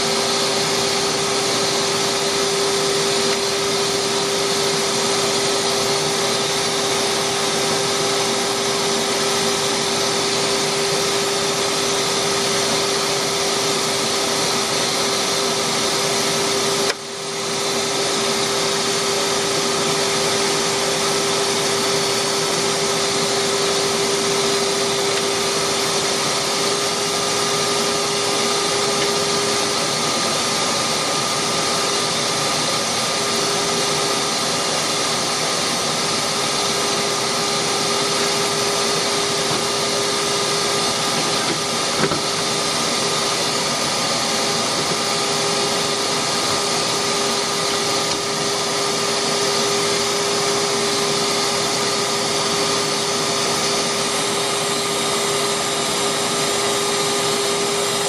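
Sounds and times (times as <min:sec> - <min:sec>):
wood lathe motor whine: 0:00.0 - 0:58.0.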